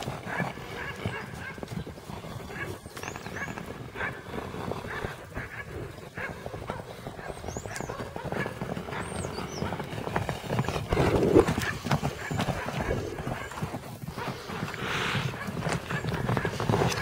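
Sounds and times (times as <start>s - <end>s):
horses galloping on dirt: 0.0s - 17.0s.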